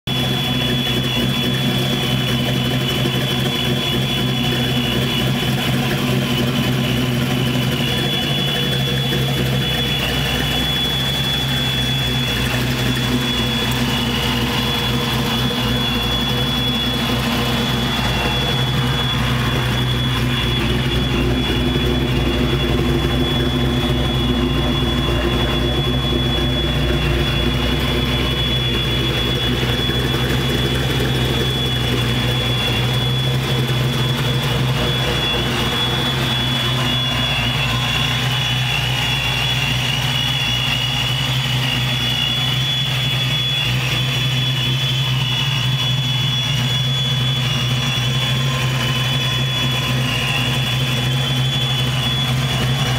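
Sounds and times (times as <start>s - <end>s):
car engine idling: 0.0s - 52.9s
supercharger whine: 0.0s - 52.9s.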